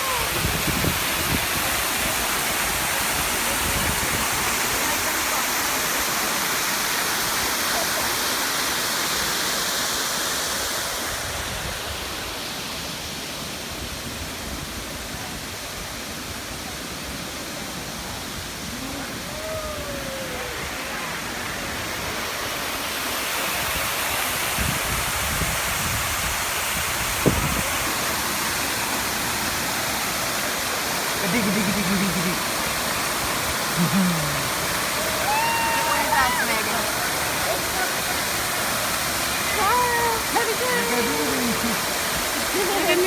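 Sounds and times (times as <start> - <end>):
waterfall pouring into pool: 0.0 - 43.0.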